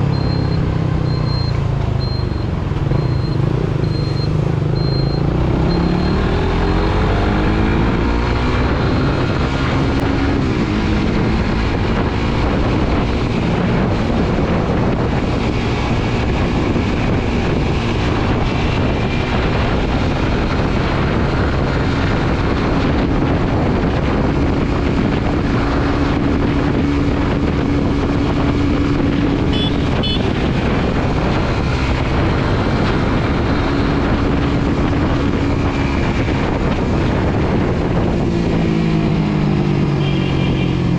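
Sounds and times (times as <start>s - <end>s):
motorcycle engine running: 0.0s - 7.9s, 8.7s - 40.9s
wind rushing over microphone: 0.0s - 40.9s.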